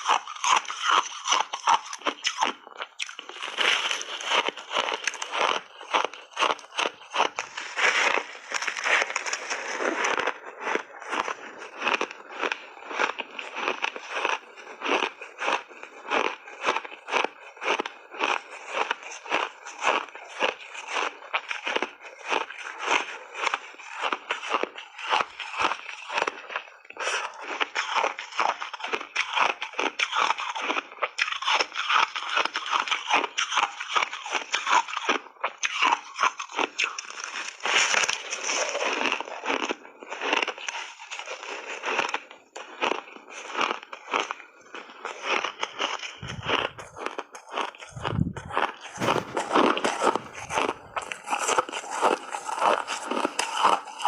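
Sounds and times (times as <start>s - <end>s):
ice crunching in mouth: 0.0s - 54.0s.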